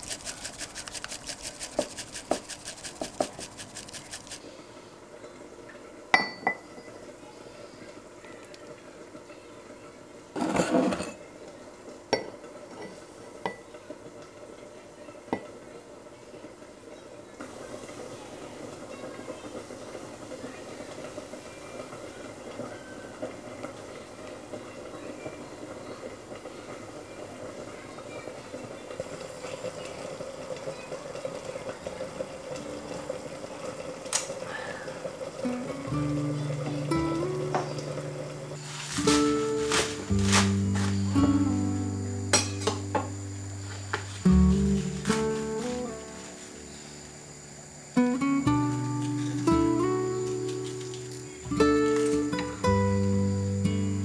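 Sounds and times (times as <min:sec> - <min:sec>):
pot simmering with bubbling hiss: 0:00.0 - 0:10.4, 0:11.2 - 0:54.0.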